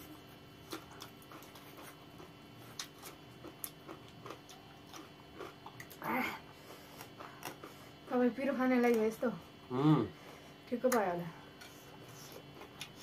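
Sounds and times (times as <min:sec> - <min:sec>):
people chewing: 0:00.0 - 0:08.1, 0:09.7 - 0:13.0.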